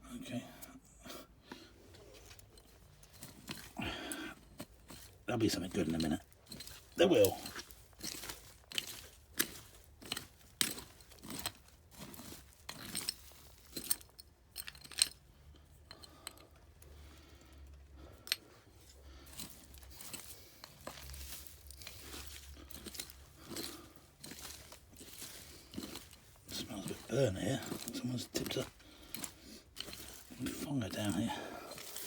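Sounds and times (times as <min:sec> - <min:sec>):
tile scraping soil and rubble: 0:01.5 - 0:16.3, 0:18.0 - 0:32.0.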